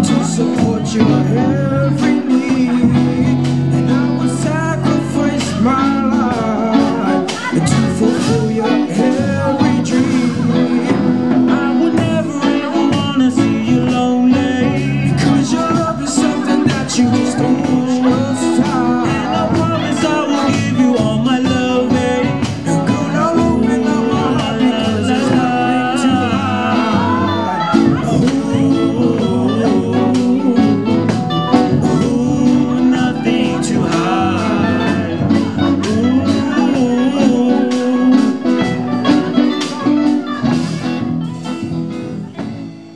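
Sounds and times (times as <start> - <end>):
person singing: 0.0 - 42.6
drums: 0.0 - 42.9
guitar: 0.0 - 42.9.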